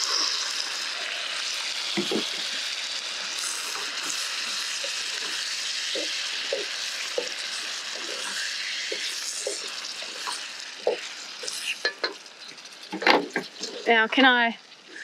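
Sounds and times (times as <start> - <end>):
noodles sizzling in frying pan: 0.0 - 15.0.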